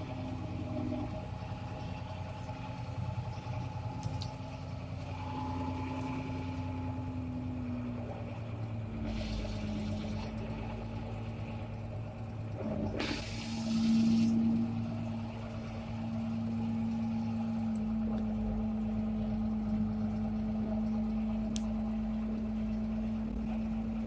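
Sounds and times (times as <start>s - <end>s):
farm machine engine running: 0.0s - 24.0s.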